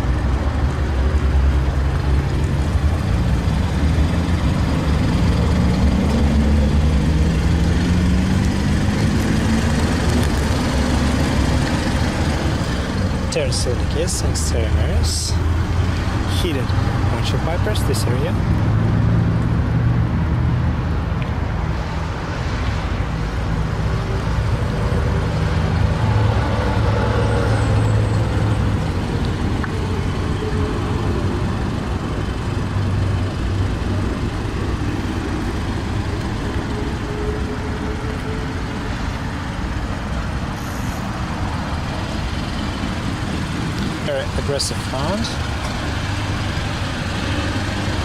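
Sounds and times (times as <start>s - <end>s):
car engine idling: 0.0s - 18.7s, 27.6s - 48.0s
road traffic noise: 0.0s - 48.0s.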